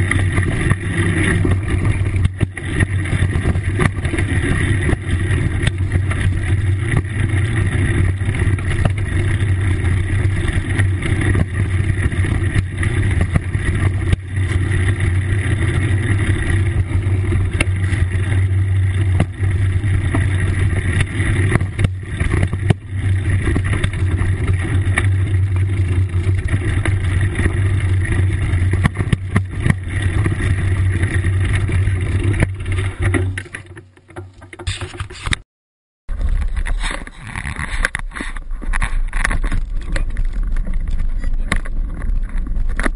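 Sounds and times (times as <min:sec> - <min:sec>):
bike knocks and rattles: 0:00.0 - 0:35.4, 0:36.1 - 0:42.9
low rumble of bike on trail: 0:00.0 - 0:35.4, 0:36.1 - 0:42.9.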